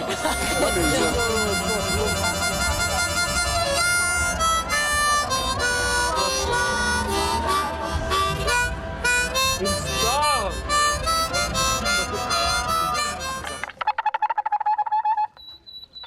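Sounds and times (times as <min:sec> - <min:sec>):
harmonica playing: 0:00.0 - 0:13.9.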